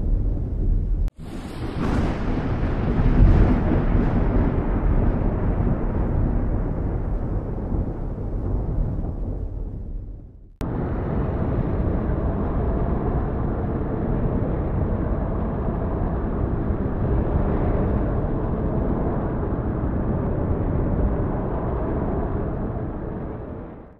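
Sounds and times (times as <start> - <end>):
dense low rumbling: 0.0 - 1.1, 2.0 - 23.9.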